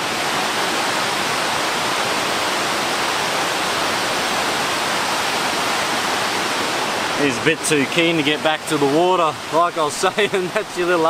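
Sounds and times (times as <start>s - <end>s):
river water pouring over a weir: 0.0s - 11.0s.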